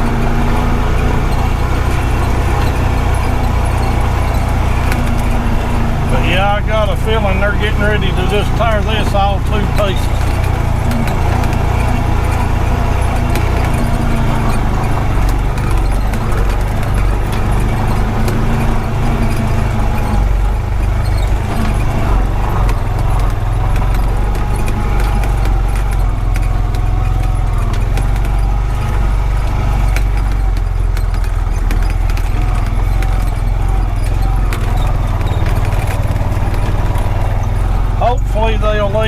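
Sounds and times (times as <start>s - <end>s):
small clicks and rattles: 0.0s - 39.0s
vehicle engine running: 0.0s - 39.0s.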